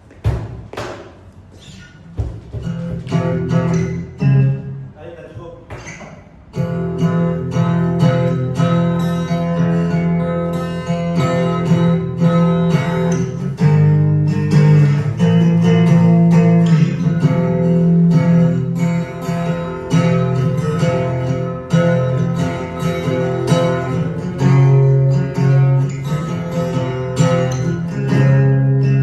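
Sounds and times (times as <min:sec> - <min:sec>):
guitar strumming: 0:01.5 - 0:05.0, 0:05.8 - 0:29.0.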